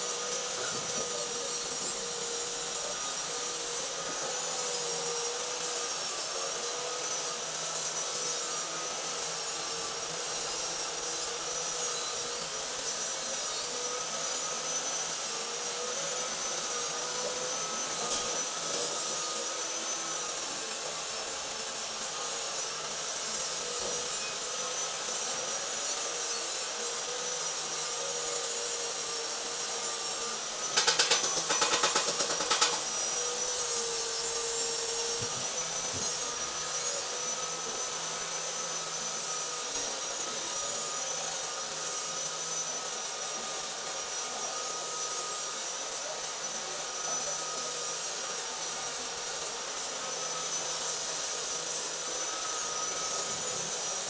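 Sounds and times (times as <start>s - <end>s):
welding arc crackling and hissing: 0.0s - 54.0s.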